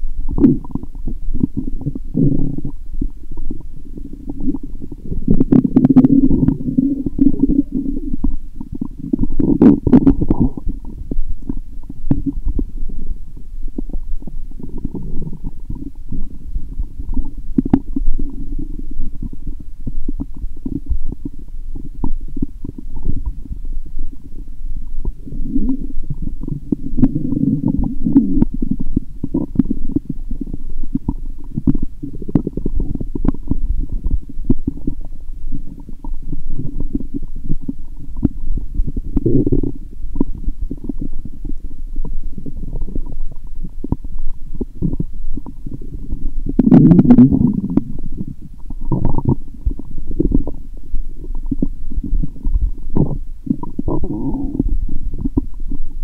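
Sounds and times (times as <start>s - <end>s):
stomach gurgling and rumbling: 0.0s - 56.0s.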